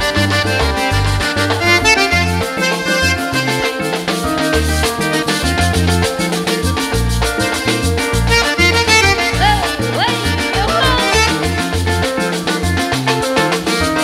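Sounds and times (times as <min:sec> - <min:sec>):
button accordion: 0:00.0 - 0:12.2
bass: 0:00.0 - 0:14.0
percussion with steady beat: 0:00.0 - 0:14.0.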